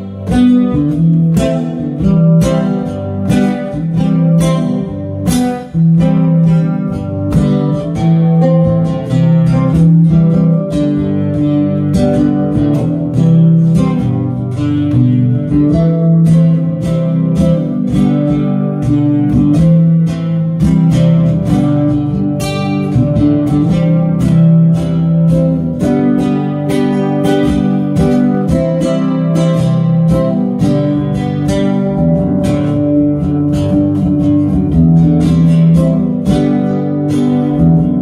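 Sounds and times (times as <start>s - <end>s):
acoustic guitar strumming and plucking: 0.0s - 38.0s.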